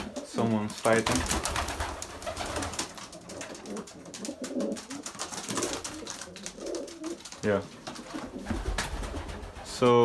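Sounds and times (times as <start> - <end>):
pigeons cooing: 0.0 - 9.7
birds rustling: 0.0 - 10.0.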